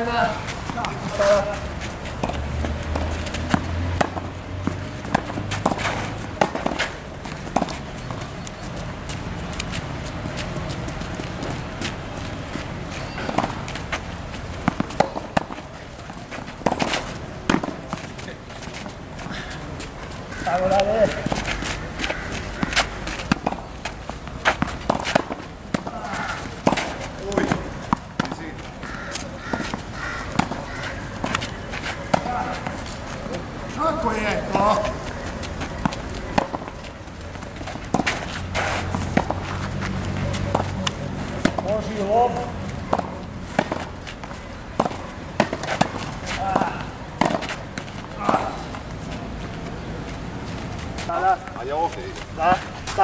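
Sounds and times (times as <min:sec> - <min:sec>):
players' footsteps: 0:00.0 - 0:53.0
tennis balls bouncing on court: 0:00.0 - 0:53.0
tennis balls struck by rackets: 0:00.0 - 0:53.0.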